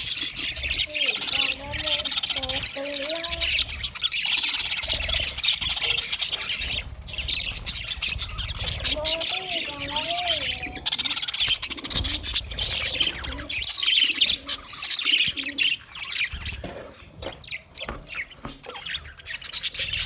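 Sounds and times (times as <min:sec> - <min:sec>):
budgerigars chattering: 0:00.0 - 0:20.0.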